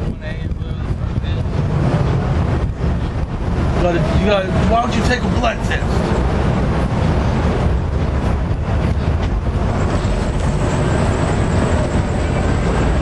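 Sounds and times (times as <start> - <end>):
low outdoor background rumble: 0.0 - 13.0.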